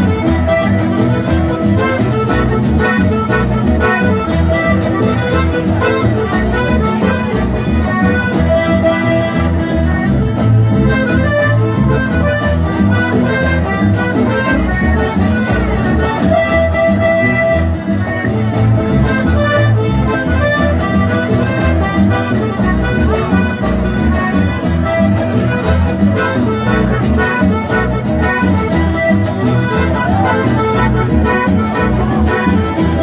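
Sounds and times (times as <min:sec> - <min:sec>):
accordion melody: 0:00.0 - 0:33.0
deep bass line: 0:00.0 - 0:33.0
guitar: 0:00.0 - 0:33.0.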